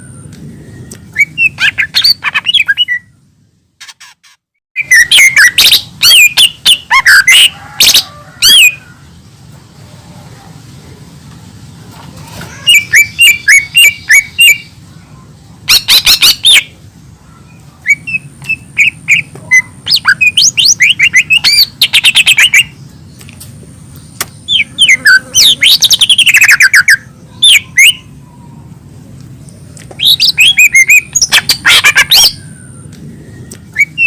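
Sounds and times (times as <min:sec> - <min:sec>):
bird singing chirps and trills: 0:00.0 - 0:03.5, 0:04.8 - 0:09.4, 0:11.6 - 0:34.0.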